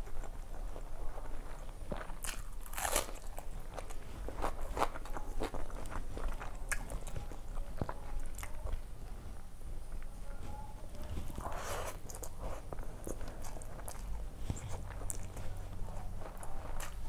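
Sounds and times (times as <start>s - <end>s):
chewing and crunching food: 0.0s - 17.0s.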